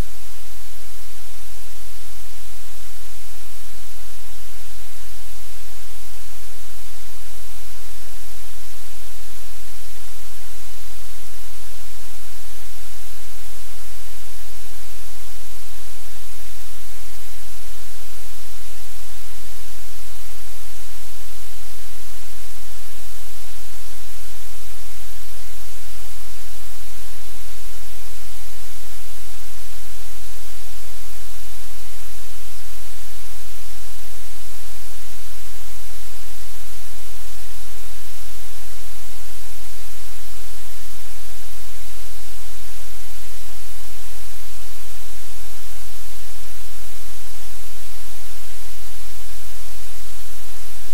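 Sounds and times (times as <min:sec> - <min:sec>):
low electrical hum: 0:00.0 - 0:50.9
static hiss: 0:00.0 - 0:50.9.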